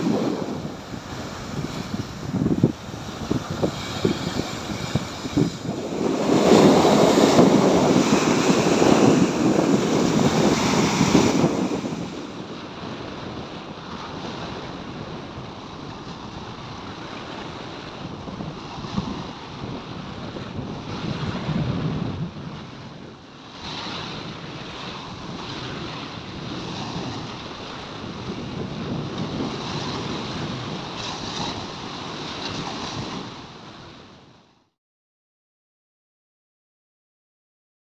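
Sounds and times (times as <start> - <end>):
small waves breaking on beach: 0.0 - 34.7
wind on microphone: 0.0 - 34.7.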